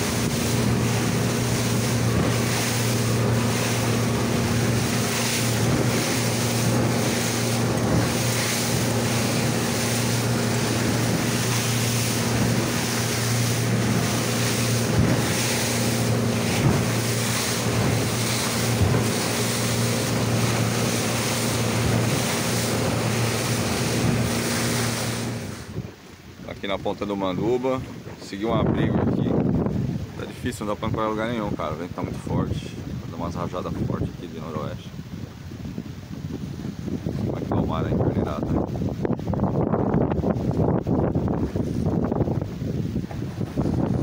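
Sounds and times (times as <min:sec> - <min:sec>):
outboard motor running: 0:00.0 - 0:44.0
water rushing along hull: 0:00.0 - 0:44.0
wind buffeting microphone: 0:00.0 - 0:44.0.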